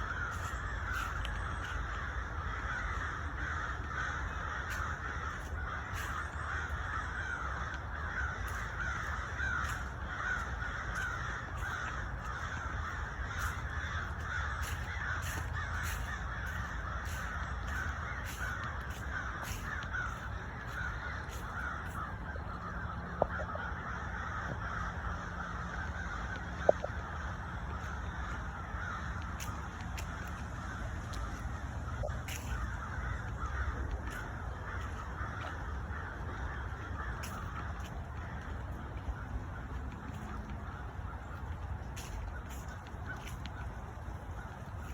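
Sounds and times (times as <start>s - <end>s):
flock of birds calling: 0.0s - 44.9s
steady low rumble: 0.0s - 44.9s.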